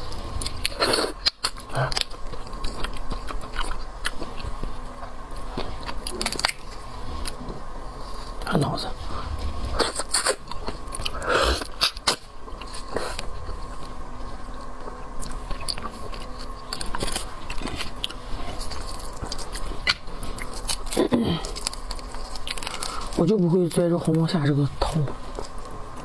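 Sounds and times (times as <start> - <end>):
sharp crunchy clicks: 0.0 - 7.6, 9.7 - 26.0
person chewing shellfish: 0.0 - 23.2, 24.8 - 26.0.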